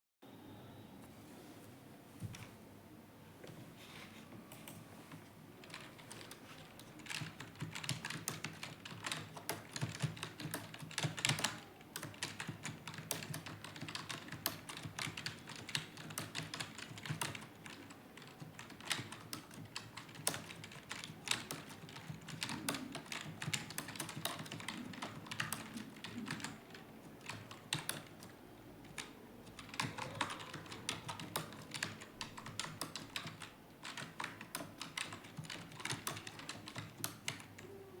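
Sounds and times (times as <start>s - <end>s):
typing on computer keyboard: 5.6s - 37.8s.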